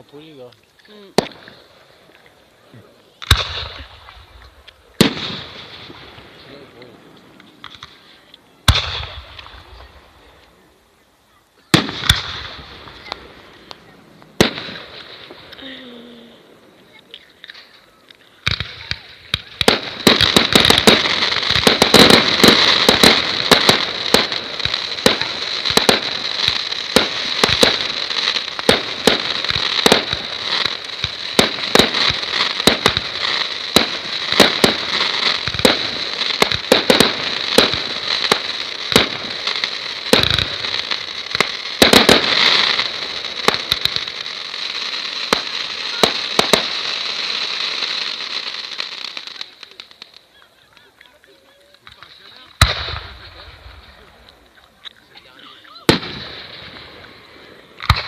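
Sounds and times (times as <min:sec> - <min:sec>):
fireworks bangs: 0:00.0 - 0:58.0
fireworks crackling: 0:00.0 - 0:58.0.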